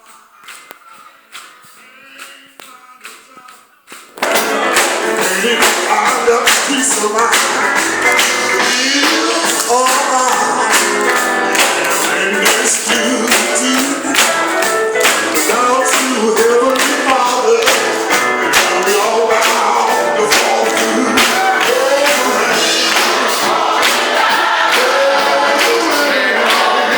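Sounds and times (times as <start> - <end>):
band accompaniment with steady beat: 3.9 - 26.9
choir singing gospel song: 4.1 - 26.9.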